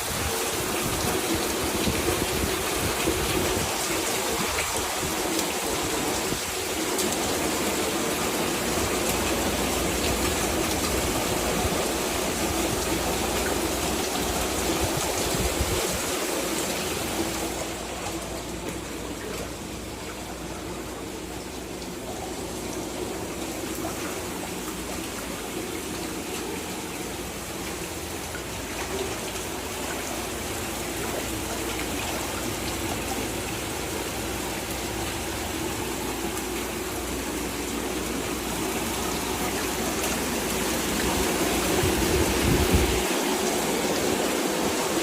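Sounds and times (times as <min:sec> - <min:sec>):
heavy rain downpour: 0:00.0 - 0:45.0
running floodwater: 0:00.0 - 0:45.0.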